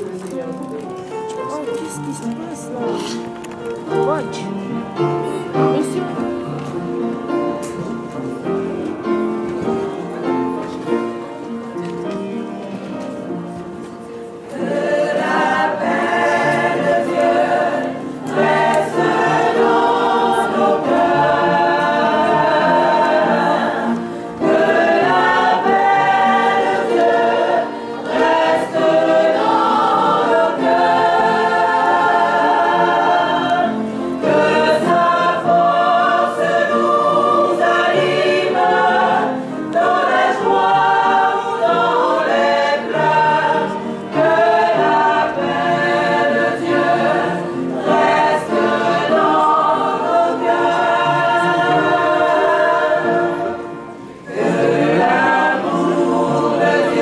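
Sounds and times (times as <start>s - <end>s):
choir singing a hymn: 1.7s - 57.0s.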